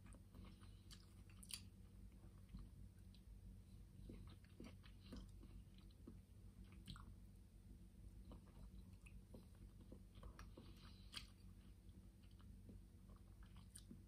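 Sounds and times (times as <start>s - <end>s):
low room hum: 0.0s - 14.0s
soft chewing: 0.0s - 14.0s.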